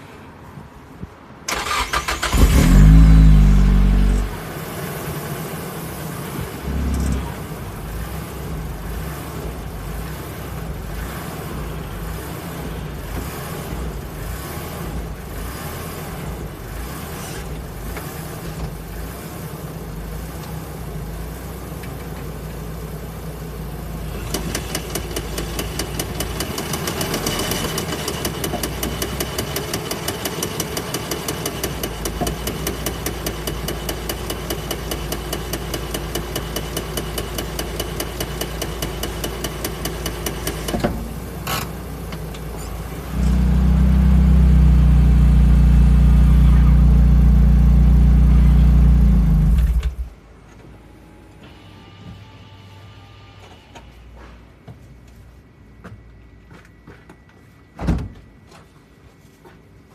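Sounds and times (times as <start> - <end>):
car engine running: 2.2 - 50.2.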